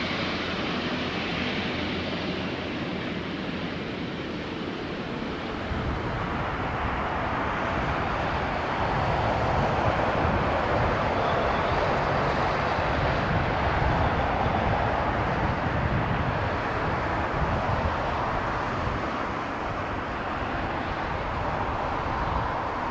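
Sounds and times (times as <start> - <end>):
jet airliner passing overhead: 0.0 - 22.9.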